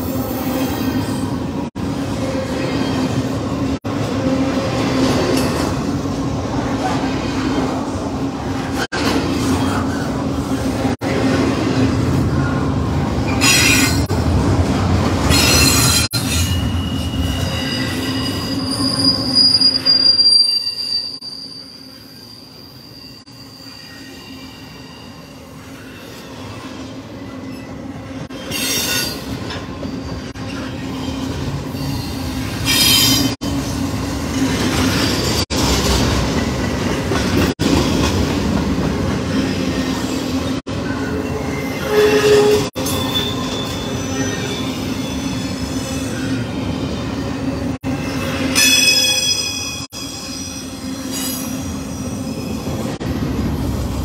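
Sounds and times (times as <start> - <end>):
wheels squealing on rail: 0.0 - 5.8, 8.6 - 12.6, 13.2 - 14.1, 15.2 - 38.1, 39.3 - 53.0
freight train rumbling past: 0.0 - 19.5, 23.3 - 54.0.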